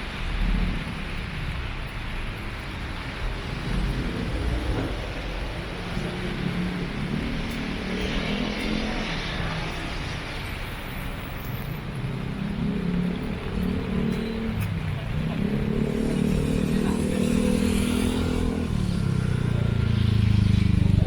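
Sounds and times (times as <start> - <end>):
rain: 0.0 - 21.0
street noise: 0.0 - 21.0.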